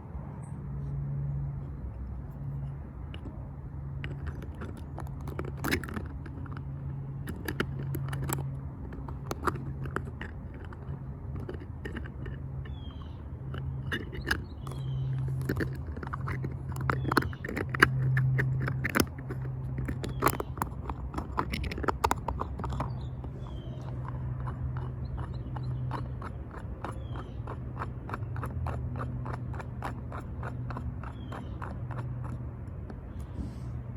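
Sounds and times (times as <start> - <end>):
plastic parts clicking and scraping: 2.5 - 33.5.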